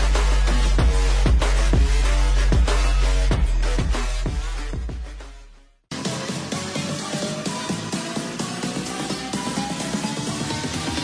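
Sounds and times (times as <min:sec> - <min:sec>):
music with deep bass and drums: 0:00.0 - 0:11.0.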